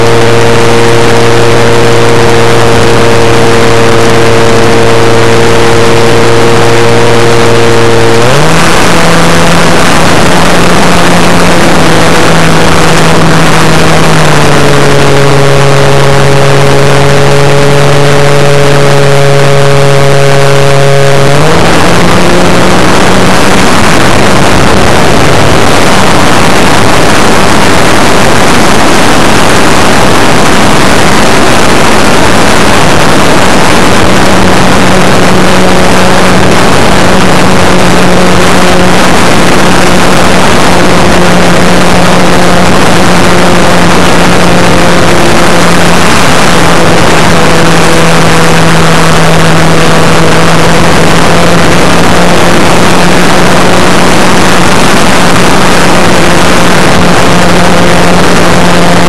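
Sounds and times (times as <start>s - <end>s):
electric motor and propeller humming: 0.0s - 59.0s
wind rush over microphone: 0.0s - 59.0s.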